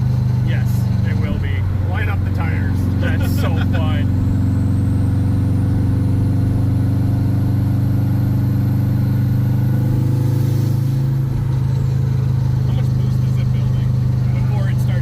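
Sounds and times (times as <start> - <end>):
car engine pulling under load: 0.0 - 15.0.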